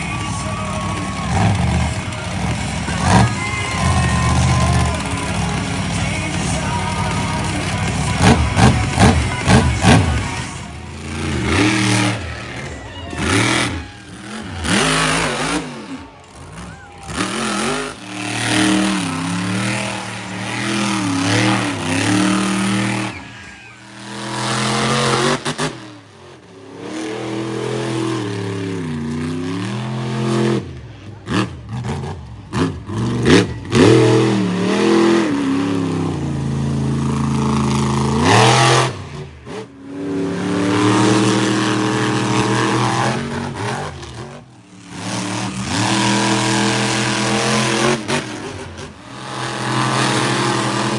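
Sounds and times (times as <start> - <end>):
monster truck engines revving: 0.0 - 50.9.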